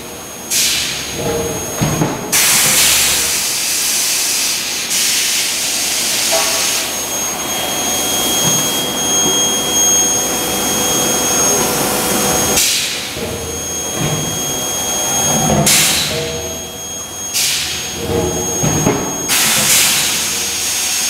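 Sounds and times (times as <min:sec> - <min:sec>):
forging machine hissing: 0:02.3 - 0:21.0
thin high whine: 0:02.6 - 0:21.0.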